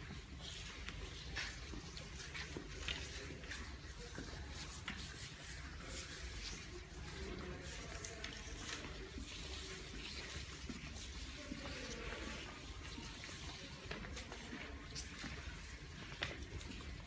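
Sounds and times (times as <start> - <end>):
brushes scraping on paper: 0.0 - 17.0.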